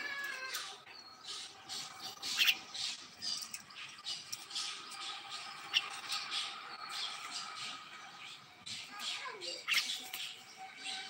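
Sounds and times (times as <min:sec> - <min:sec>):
birds squawking: 0:00.0 - 0:11.0.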